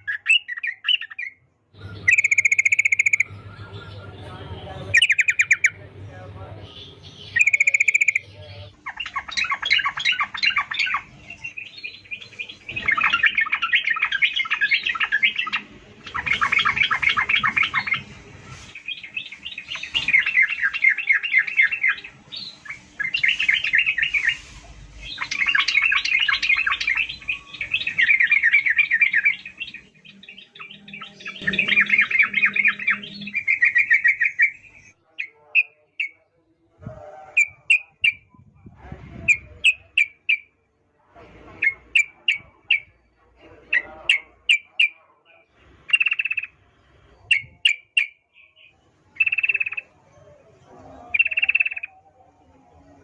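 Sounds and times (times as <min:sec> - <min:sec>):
bird singing bubbling chatter: 0:00.0 - 0:36.2, 0:41.6 - 0:53.0.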